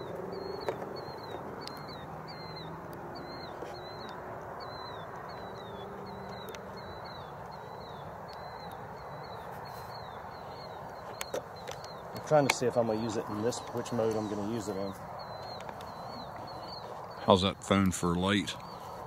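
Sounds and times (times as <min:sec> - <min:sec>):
animal chirping: 0:00.0 - 0:17.3
steady background noise: 0:00.0 - 0:19.0.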